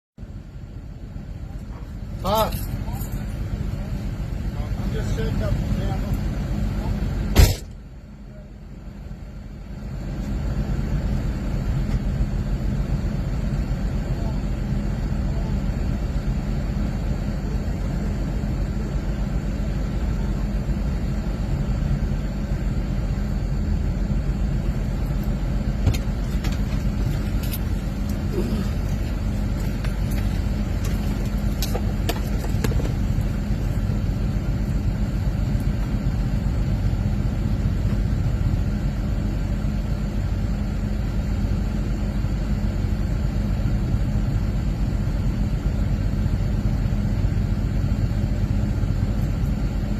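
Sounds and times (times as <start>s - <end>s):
engine running steadily: 0.2s - 49.9s.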